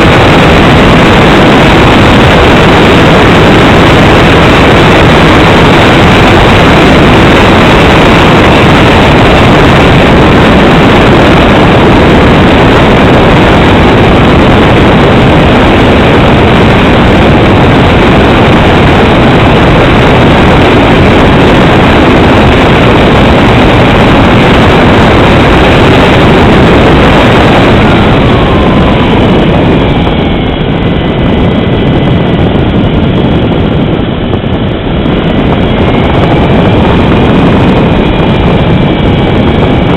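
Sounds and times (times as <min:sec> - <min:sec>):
aircraft engine roar: 0:00.0 - 0:39.9
rushing air: 0:00.0 - 0:39.9
thin falling whines: 0:00.0 - 0:39.9.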